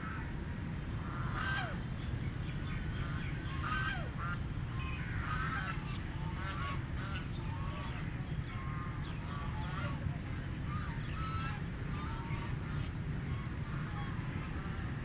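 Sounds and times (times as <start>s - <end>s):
ducks quacking: 1.0s - 1.8s, 3.0s - 15.0s.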